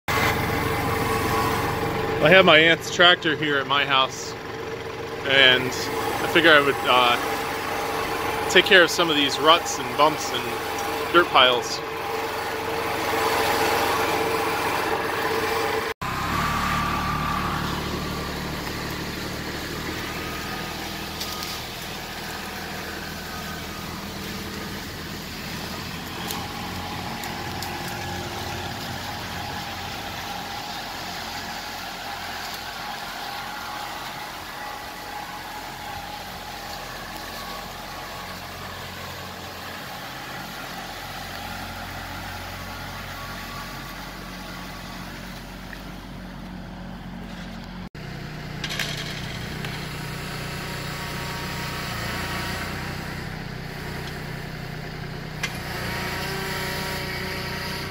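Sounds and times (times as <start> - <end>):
tractor diesel engine running: 0.1 - 57.9.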